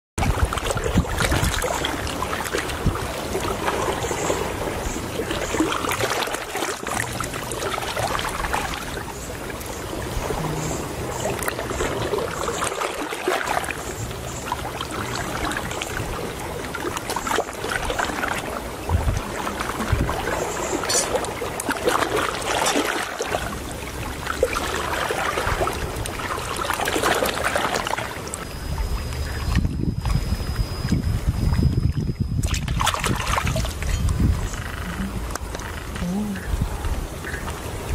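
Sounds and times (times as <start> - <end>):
knocks and splashes: 0.2 - 28.5, 29.4 - 37.9
seawater lapping among rocks: 0.2 - 37.9.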